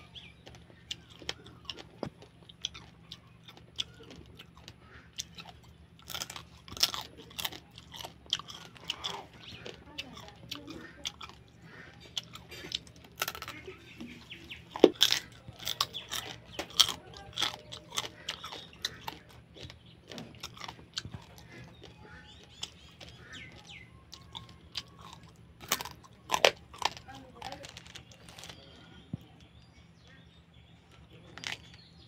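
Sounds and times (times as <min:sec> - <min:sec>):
crab shells crunching: 0:00.0 - 0:29.5, 0:30.9 - 0:32.0
chewing: 0:00.0 - 0:29.6, 0:30.3 - 0:32.0.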